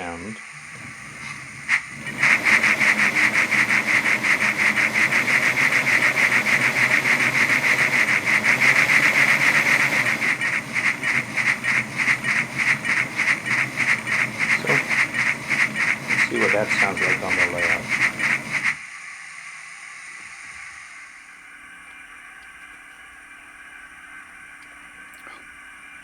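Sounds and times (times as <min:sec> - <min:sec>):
steam locomotive chuffs from speaker: 0:00.0 - 0:22.4.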